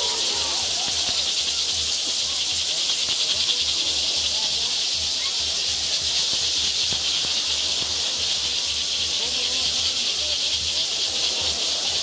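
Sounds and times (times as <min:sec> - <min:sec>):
faint crowd voices: 0:00.0 - 0:12.0
many rattles shaking: 0:00.0 - 0:12.0.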